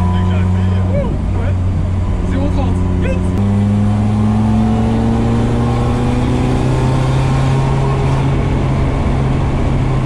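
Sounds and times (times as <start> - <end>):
car engine pulling: 0.0 - 10.0.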